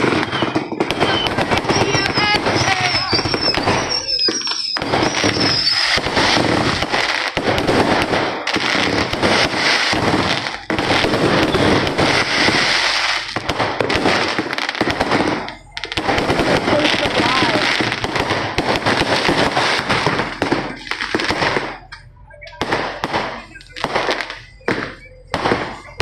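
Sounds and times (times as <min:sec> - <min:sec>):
falling firework whistles: 0:00.0 - 0:26.0
fireworks crackling pops: 0:00.0 - 0:26.0.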